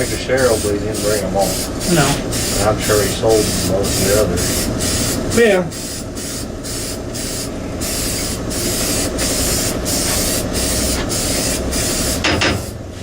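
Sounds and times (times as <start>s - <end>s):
hissing spray: 0.0s - 12.9s.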